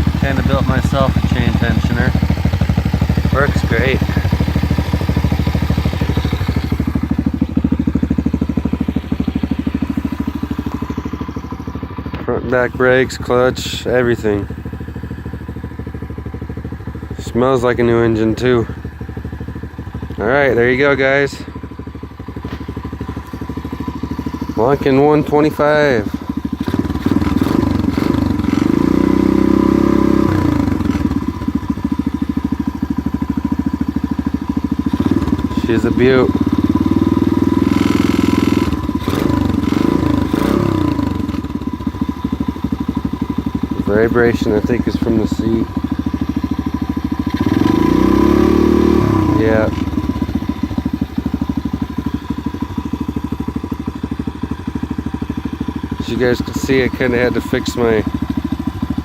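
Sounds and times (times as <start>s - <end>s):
dirt bike engine idling: 0.0s - 59.0s.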